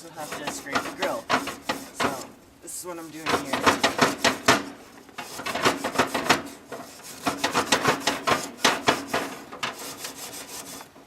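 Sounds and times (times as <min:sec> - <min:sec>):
scraper on grill grates: 0:00.0 - 0:02.4, 0:03.0 - 0:11.0.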